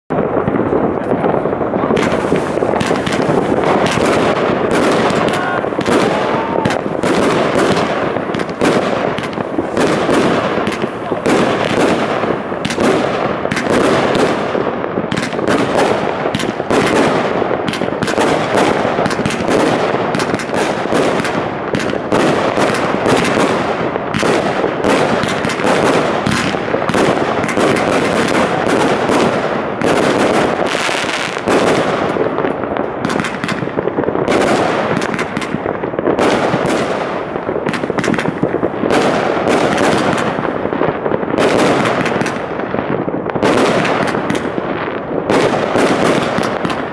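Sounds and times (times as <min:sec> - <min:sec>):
firework bursts: 0:00.1 - 0:46.9
firework launch shots: 0:00.1 - 0:46.9.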